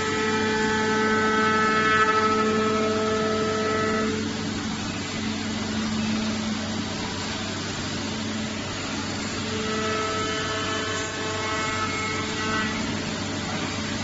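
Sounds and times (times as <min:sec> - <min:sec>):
cnc router cutting wood: 0:00.0 - 0:14.0
multi-tone machine whine: 0:00.0 - 0:14.0.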